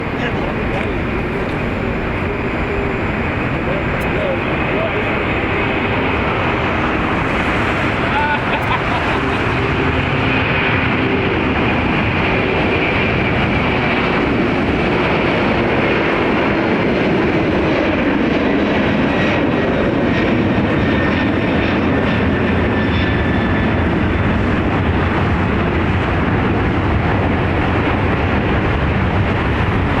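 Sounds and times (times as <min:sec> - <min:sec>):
jet engines at takeoff thrust: 0:00.0 - 0:30.0.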